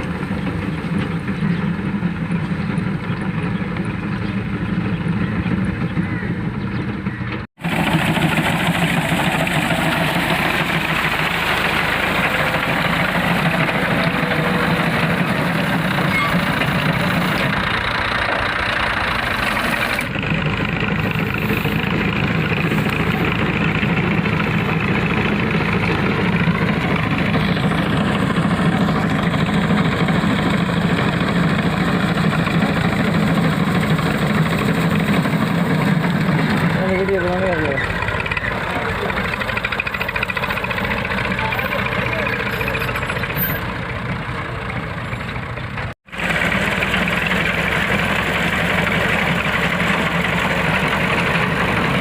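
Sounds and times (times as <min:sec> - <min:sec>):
tractor engine under load: 0:00.0 - 0:52.0.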